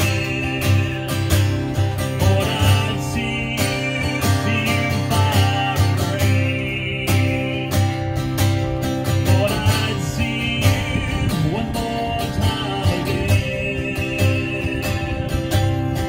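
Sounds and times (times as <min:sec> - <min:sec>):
amplified acoustic guitar strumming: 0:00.0 - 0:16.0
man singing: 0:00.0 - 0:16.0.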